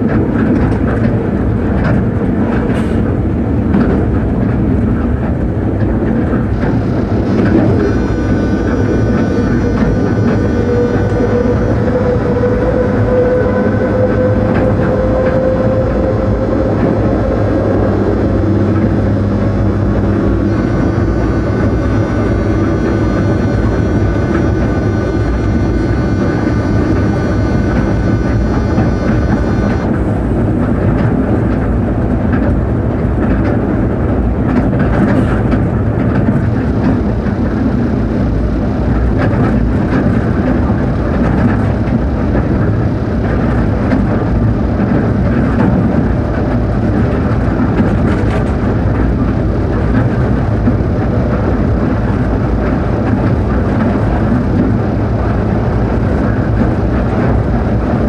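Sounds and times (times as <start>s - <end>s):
electrical equipment whining: 0.0s - 58.0s
train wheels rumbling: 0.0s - 58.0s.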